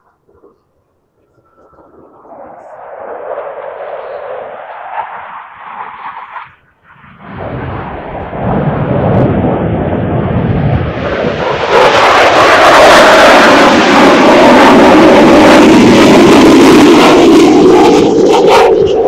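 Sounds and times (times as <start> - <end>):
jet aircraft flying past: 0.0 - 19.0.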